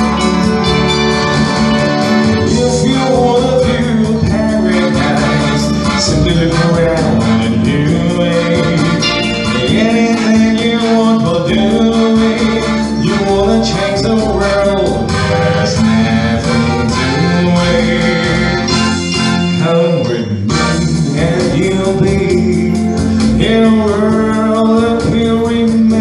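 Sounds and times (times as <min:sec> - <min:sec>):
electronic keyboard with steady beat: 0:00.0 - 0:26.0
man singing into a microphone: 0:02.3 - 0:26.0.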